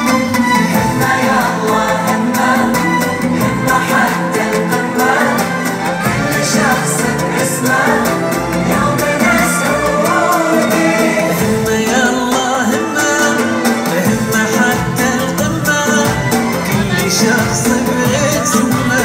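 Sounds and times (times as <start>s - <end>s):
song with singing over instruments: 0.0s - 19.0s.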